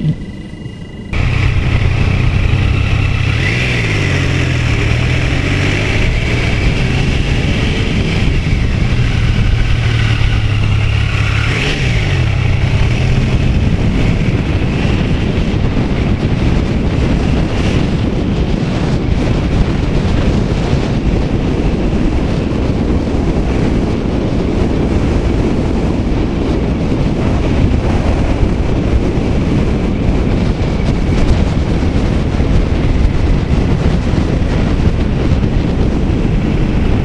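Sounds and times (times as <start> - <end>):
motorcycle engine running: 0.0 - 37.0
wind noise: 0.0 - 37.0.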